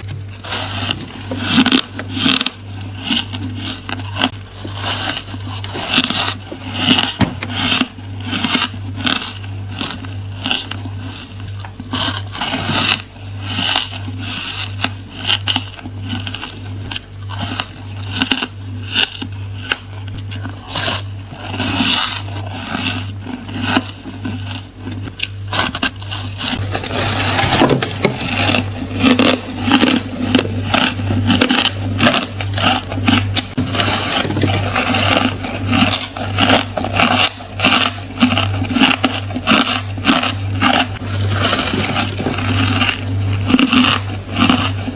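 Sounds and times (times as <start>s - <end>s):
person crunching ice cubes: 0.0s - 44.9s
steady low hum: 0.0s - 44.9s.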